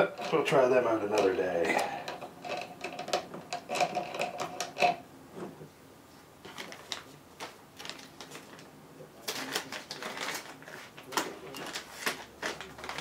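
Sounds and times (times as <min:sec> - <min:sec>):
plastic parts clicking and rattling: 0:00.0 - 0:05.0, 0:06.4 - 0:13.0.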